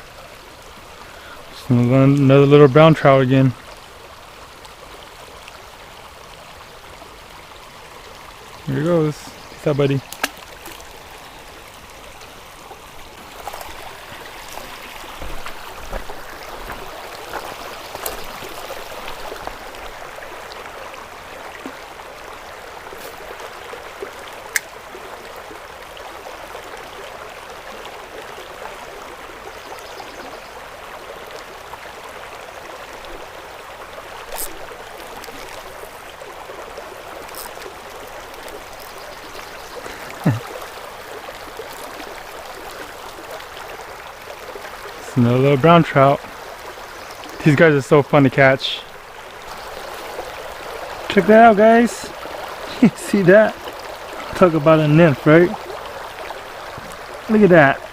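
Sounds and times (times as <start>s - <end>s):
creek flowing over rocks: 0.0s - 57.9s.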